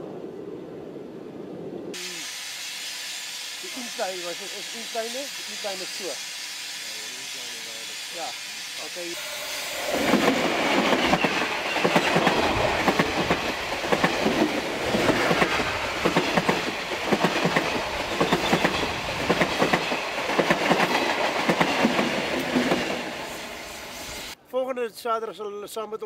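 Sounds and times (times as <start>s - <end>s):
train passing: 0.0s - 24.4s.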